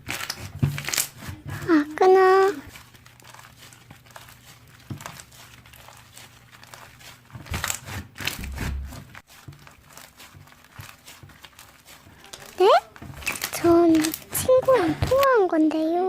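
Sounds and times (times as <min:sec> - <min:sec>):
slime squished by hand: 0:00.0 - 0:15.4.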